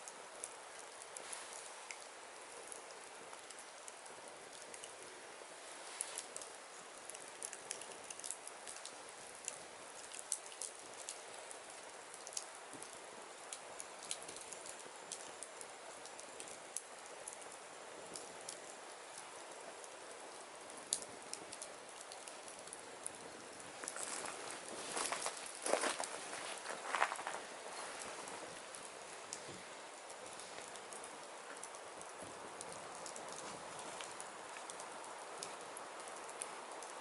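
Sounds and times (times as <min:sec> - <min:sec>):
fire crackles and pops: 0:00.0 - 0:37.0
firewood burning: 0:00.0 - 0:37.0.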